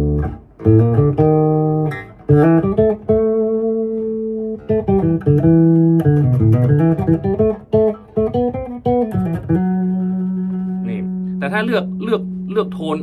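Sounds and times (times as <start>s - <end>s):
electric bass guitar notes: 0.0s - 13.0s.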